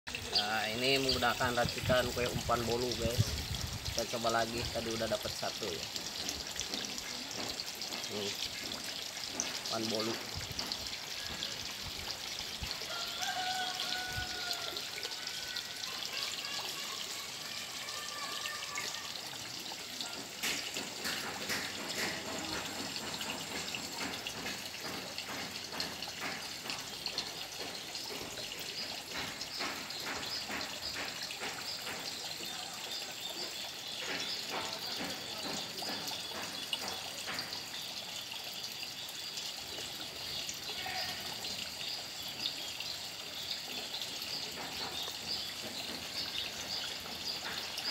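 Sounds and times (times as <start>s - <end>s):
small water drips: 0.1s - 47.9s
water trickling into pond: 0.1s - 47.9s.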